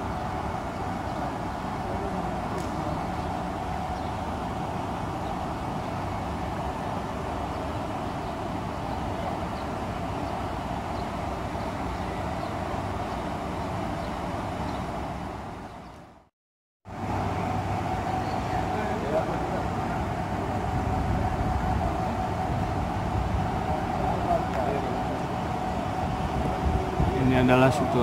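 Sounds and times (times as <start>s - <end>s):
urban background rushing hum: 0.0s - 16.3s, 16.9s - 28.0s.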